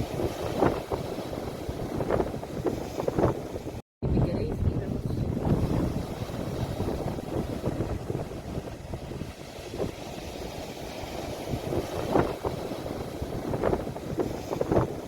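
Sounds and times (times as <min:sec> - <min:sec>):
sea waves washing: 0:00.0 - 0:15.0
wind rumbling on microphone: 0:00.0 - 0:15.0.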